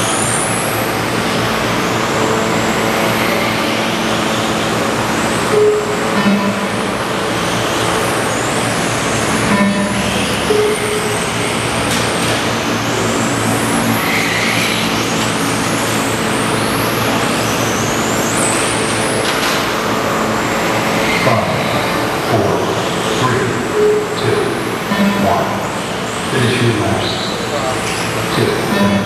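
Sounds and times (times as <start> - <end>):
electric motors whining: 0.0 - 29.0.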